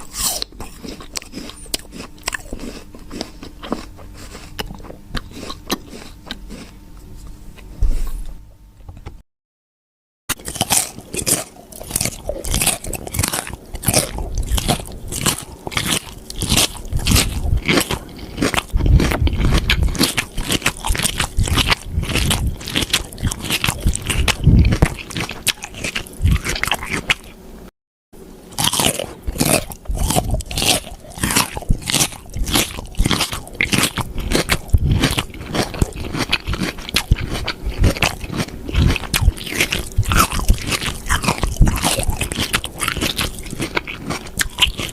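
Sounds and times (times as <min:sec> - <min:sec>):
crunching of crisp food: 0:00.0 - 0:07.7, 0:10.3 - 0:27.4, 0:28.5 - 0:44.9.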